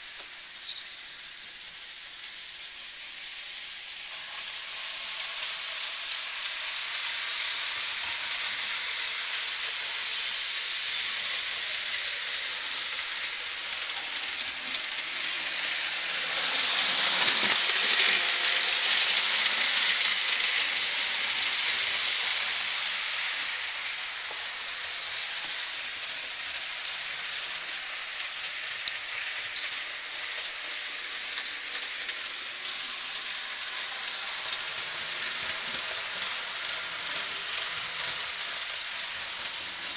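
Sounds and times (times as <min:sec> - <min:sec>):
model trains running on rails: 0:00.0 - 0:39.9.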